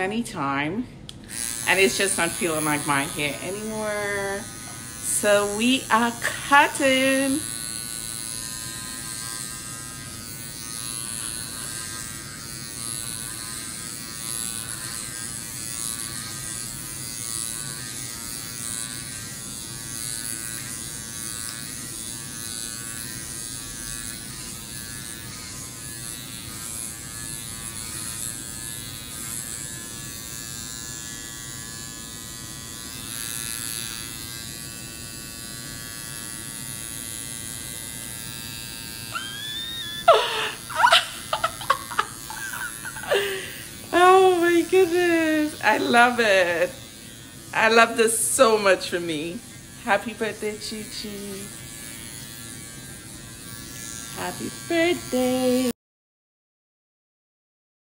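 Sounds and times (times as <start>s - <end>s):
electric hair clipper buzzing: 0.0s - 55.8s.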